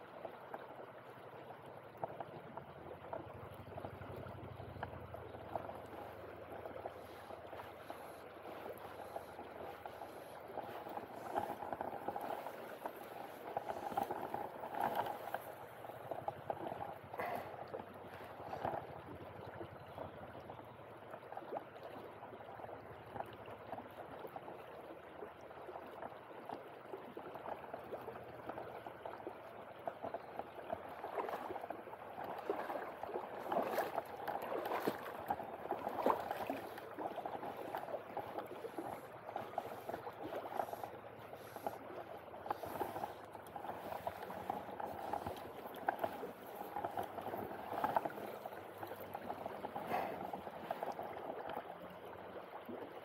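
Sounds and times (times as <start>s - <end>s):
river flowing over stones: 0.0s - 53.0s.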